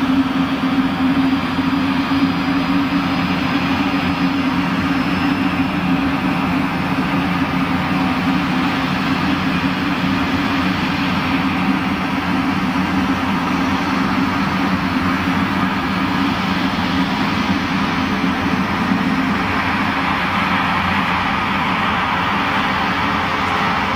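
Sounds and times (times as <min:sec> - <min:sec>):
auxiliary power unit droning: 0:00.0 - 0:23.9.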